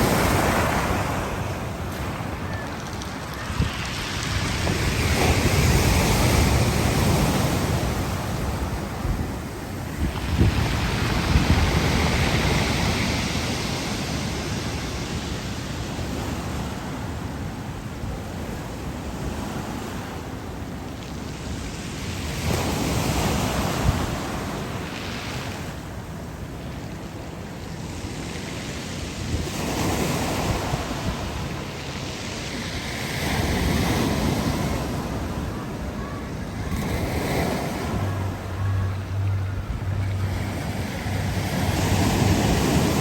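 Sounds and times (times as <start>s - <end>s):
waves breaking on shore: 0.0s - 43.0s.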